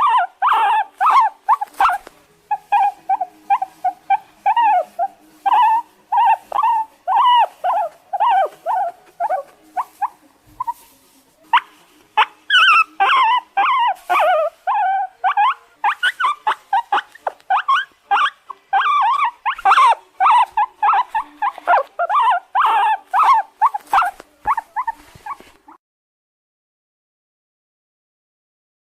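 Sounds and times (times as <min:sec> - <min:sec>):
guinea pig wheeking: 0:00.0 - 0:10.9, 0:11.5 - 0:25.8.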